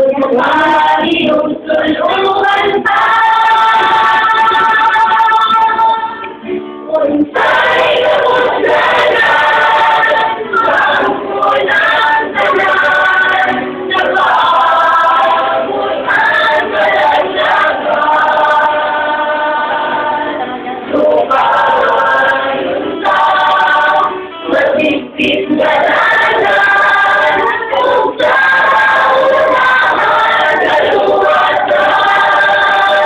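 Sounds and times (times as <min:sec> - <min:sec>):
mixed choir singing a hymn: 0:00.0 - 0:33.0.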